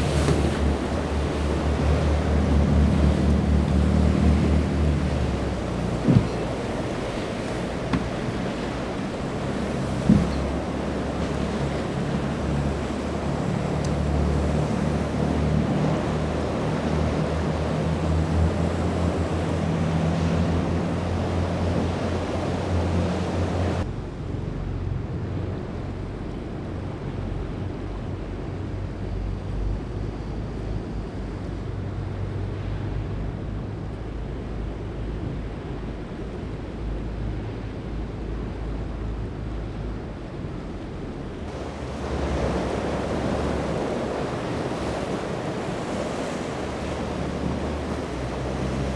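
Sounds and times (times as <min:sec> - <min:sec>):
waves washing: 0:00.0 - 0:23.9, 0:31.2 - 0:48.9
wind buffeting microphone: 0:00.0 - 0:29.3, 0:30.0 - 0:48.9
boat engines droning: 0:00.0 - 0:48.9.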